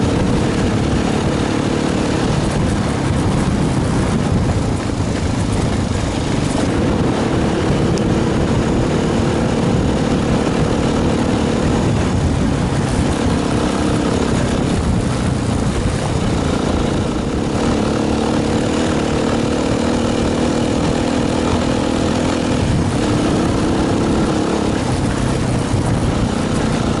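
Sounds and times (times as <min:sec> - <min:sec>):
gravel road noise: 0:00.0 - 0:27.0
motorcycle engine running: 0:00.0 - 0:27.0
wind noise: 0:00.0 - 0:27.0.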